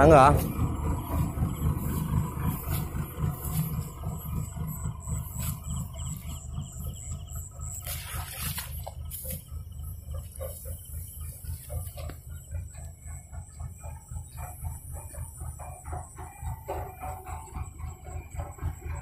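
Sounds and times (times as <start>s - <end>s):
combine harvester rumbling: 0.0s - 19.0s.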